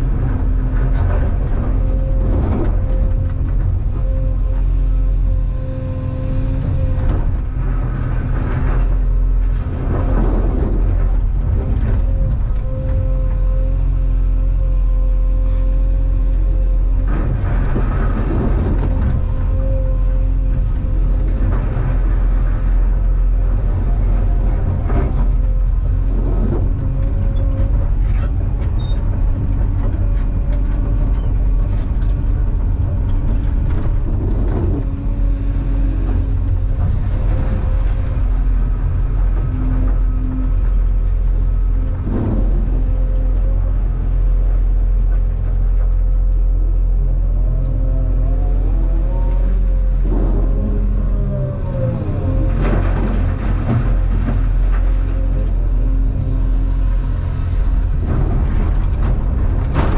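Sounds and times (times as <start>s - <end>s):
diesel engine and hydraulics whine: 0.0s - 59.9s.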